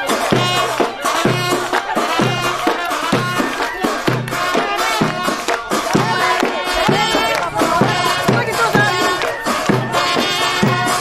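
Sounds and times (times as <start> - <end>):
drum rhythm: 0.0 - 11.0
reedy wind instrument melody: 0.0 - 11.0.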